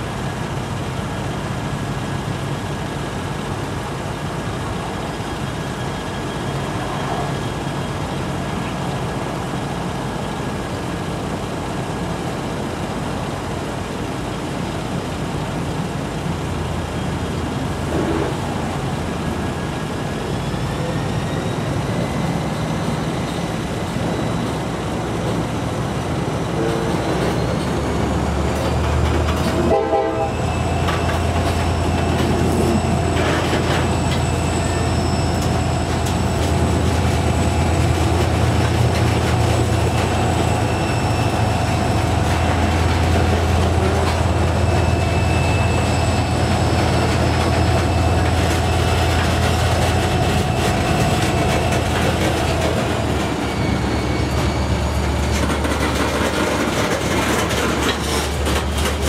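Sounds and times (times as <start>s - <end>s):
diesel locomotive engine drone: 0.0s - 59.0s
hopper cars rolling: 0.0s - 59.0s.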